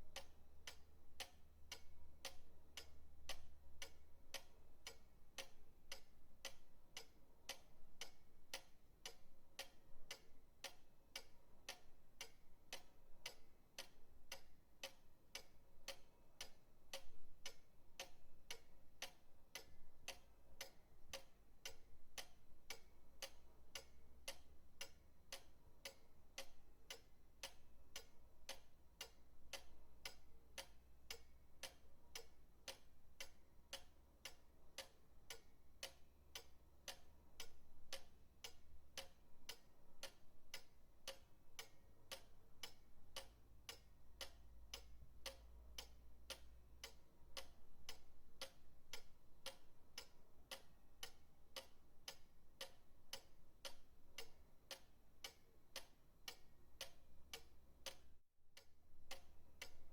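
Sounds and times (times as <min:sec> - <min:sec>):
pendulum clock ticking: 0:00.0 - 0:59.9.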